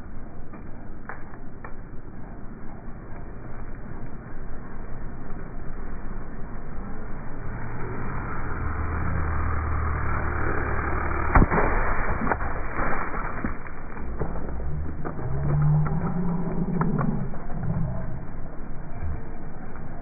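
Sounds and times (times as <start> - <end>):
truck engine humming low: 2.2 - 20.0.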